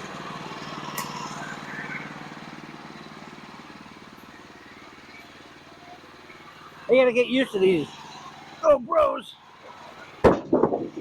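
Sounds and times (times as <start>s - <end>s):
small gasoline engine running: 0.0s - 11.0s.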